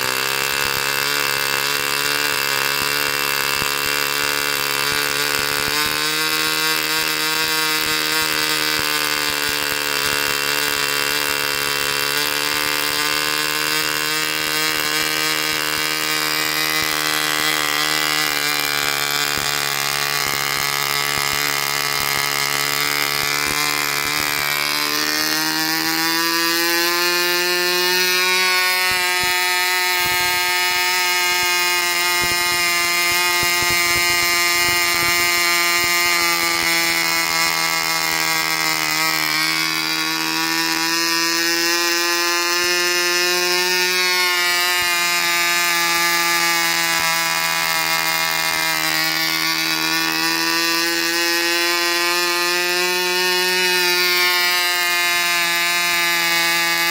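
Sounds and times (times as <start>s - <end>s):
model engine buzzing whine: 0.0s - 56.9s.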